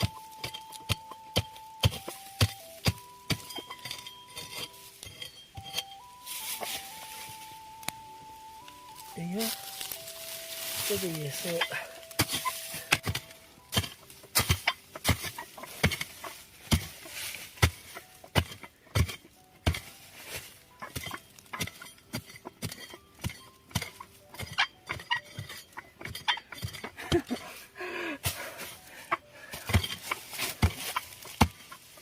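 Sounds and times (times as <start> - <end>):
hoe chopping into soil: 0.0 - 7.3, 9.0 - 27.5, 29.5 - 32.0.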